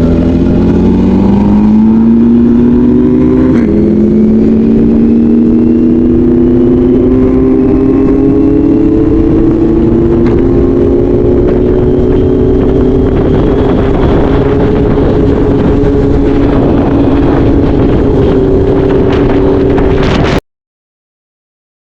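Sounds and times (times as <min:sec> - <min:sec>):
motorcycle engine cruising: 0:00.0 - 0:20.4.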